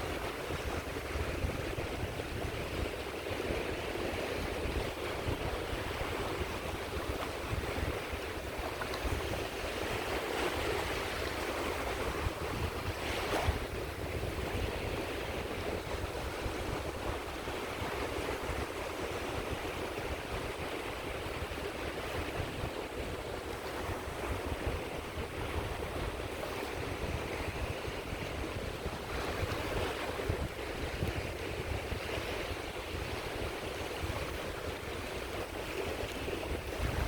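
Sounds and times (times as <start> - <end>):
sea waves washing onto shore: 0.0 - 37.0.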